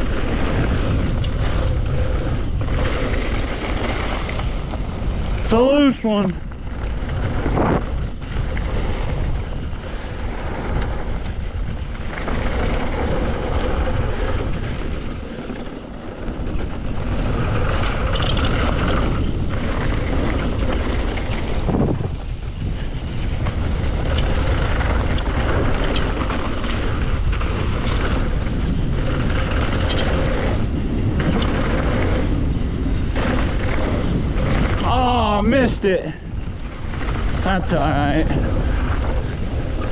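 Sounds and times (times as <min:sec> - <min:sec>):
bike rattling: 0:00.0 - 0:39.9
bike tyres rolling on dirt: 0:00.0 - 0:39.9
wind rumbling on microphone: 0:00.0 - 0:39.9.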